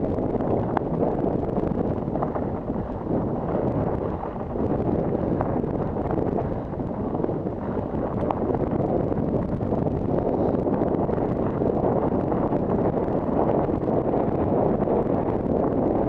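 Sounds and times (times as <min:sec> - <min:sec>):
bike tyres rolling on rocky dirt: 0:00.0 - 0:16.0
wind buffeting microphone: 0:00.0 - 0:16.0.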